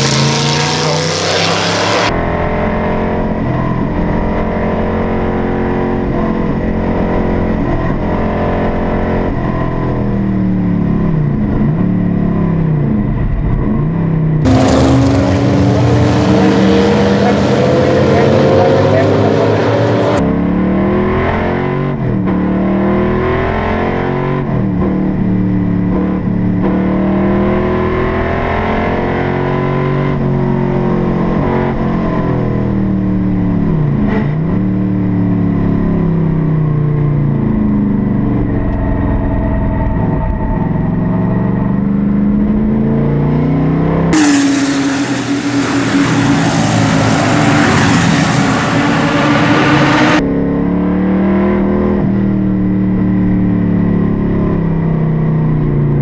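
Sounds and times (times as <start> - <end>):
race car engine accelerating: 0.0 - 55.8.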